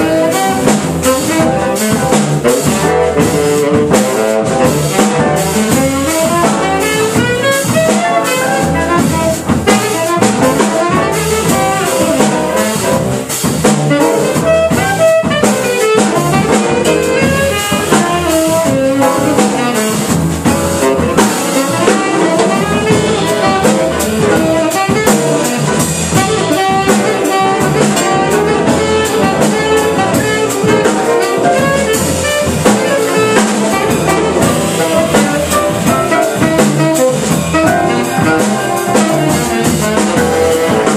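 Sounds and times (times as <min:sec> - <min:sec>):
jazz combo playing: 0:00.0 - 0:40.9
saxophone lead: 0:00.0 - 0:40.9.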